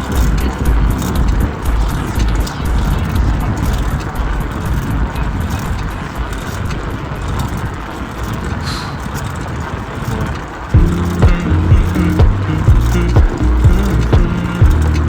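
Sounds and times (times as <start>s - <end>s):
low rumble of travel: 0.0s - 15.0s
small clicks and rattles: 0.0s - 15.0s
wind buffeting microphone: 0.0s - 15.0s.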